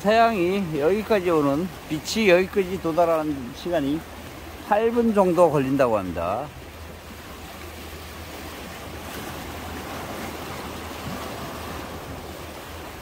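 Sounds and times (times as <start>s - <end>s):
waves washing against rocks: 0.0s - 13.0s.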